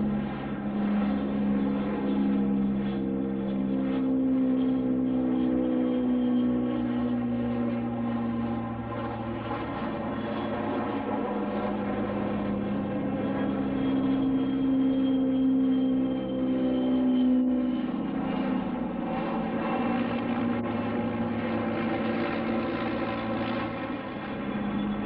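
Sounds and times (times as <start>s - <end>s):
aircraft engines droning: 0.0s - 25.0s.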